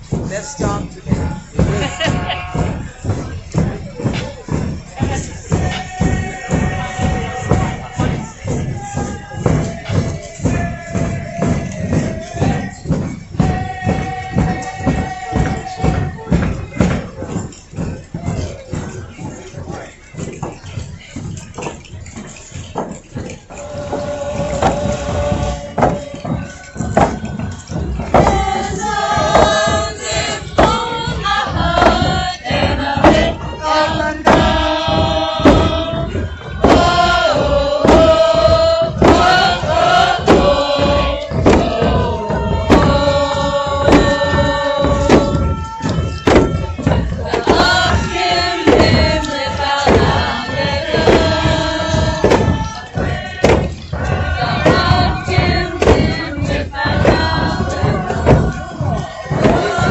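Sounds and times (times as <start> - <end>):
steady beat of thuds: 0.0 - 59.9
voices singing a chant: 0.0 - 59.9.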